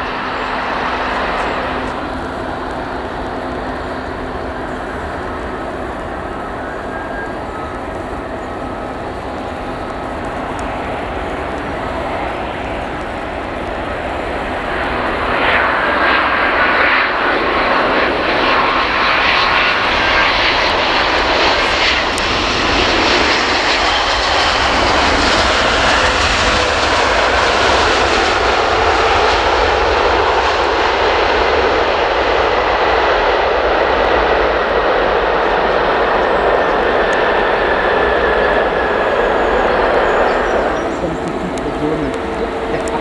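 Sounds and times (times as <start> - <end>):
jet engine whine falling in pitch: 0.0 - 43.0
jet engines roaring: 0.0 - 43.0.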